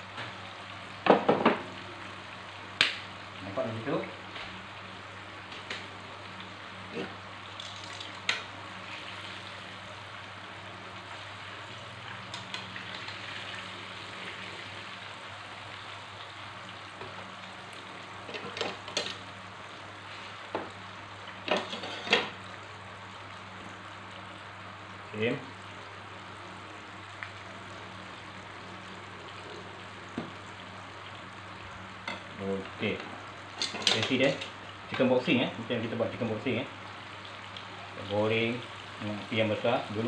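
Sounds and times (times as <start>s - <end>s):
chicken sizzling in oil: 0.0s - 40.0s.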